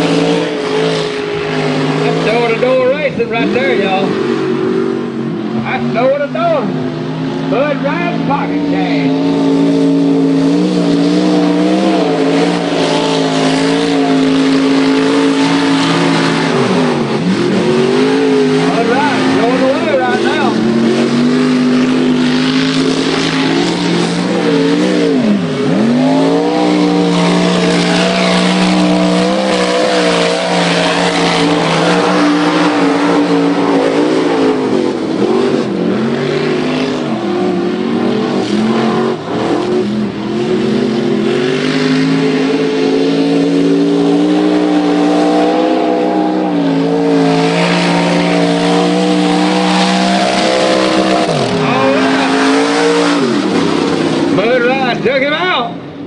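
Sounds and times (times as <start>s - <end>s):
tires throwing mud and water: 0.0s - 56.0s
truck engines revving high: 0.0s - 56.0s.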